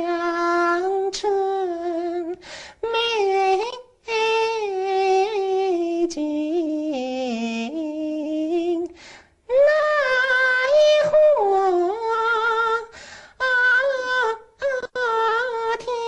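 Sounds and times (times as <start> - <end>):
woman singing opera with vibrato: 0.0 - 16.0.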